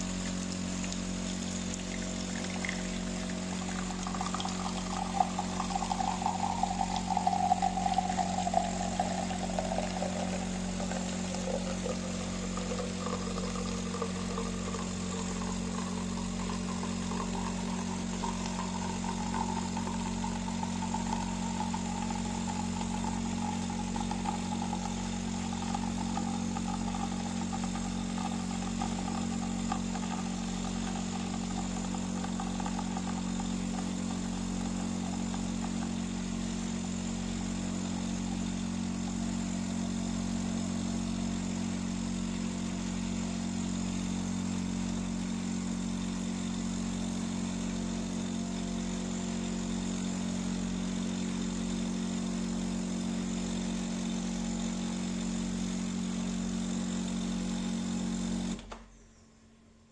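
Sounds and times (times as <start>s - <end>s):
espresso machine pump humming: 0.0s - 58.9s.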